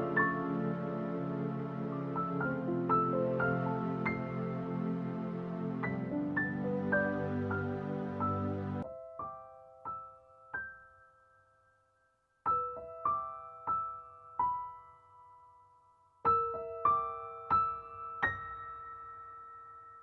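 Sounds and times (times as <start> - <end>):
slow sparse piano music: 0.0 - 20.0.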